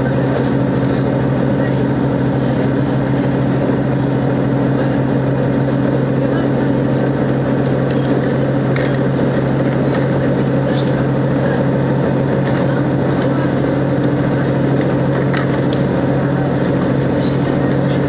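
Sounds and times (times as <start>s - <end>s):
train interior drone: 0.0s - 18.0s.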